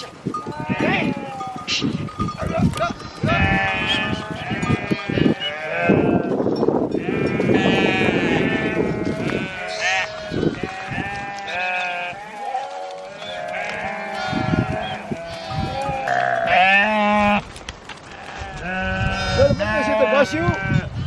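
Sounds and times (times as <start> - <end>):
sheep bleating: 0.5 - 17.4, 18.1 - 21.0.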